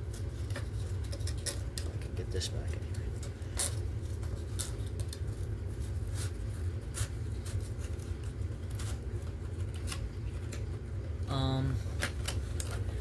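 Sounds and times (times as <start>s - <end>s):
paper and cardboard crinkling: 0.0s - 10.7s.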